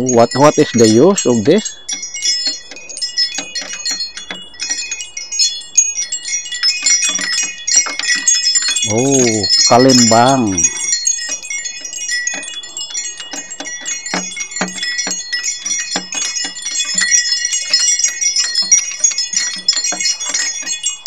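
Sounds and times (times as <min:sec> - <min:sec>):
hanging bell chime tinkling: 0:00.0 - 0:21.0.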